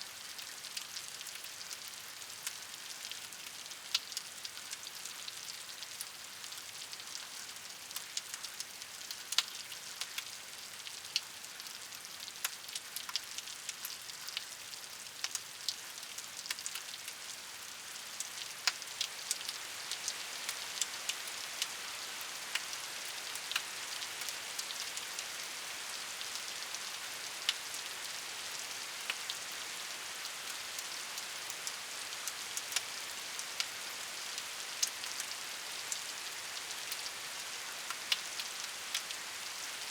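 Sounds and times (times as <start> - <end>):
rain hiss: 0.0 - 39.9
raindrops pattering close by: 0.1 - 39.9.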